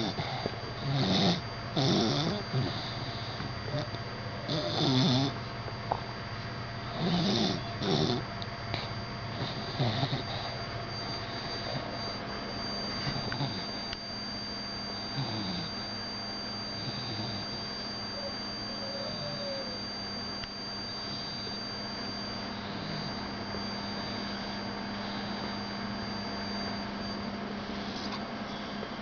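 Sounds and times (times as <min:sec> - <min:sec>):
dogs snoring softly: 0:00.0 - 0:06.0, 0:06.8 - 0:12.3, 0:12.9 - 0:14.1, 0:14.8 - 0:19.8, 0:20.9 - 0:29.0
electrical hum and hiss: 0:00.0 - 0:29.0.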